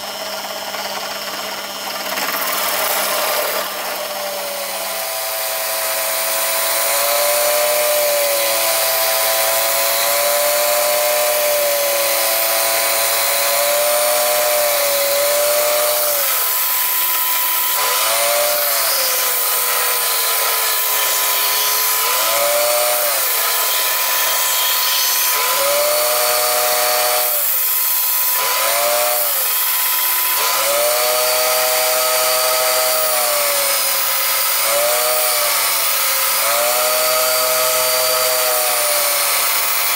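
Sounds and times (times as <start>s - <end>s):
power tool cutting wood: 0.0s - 39.9s.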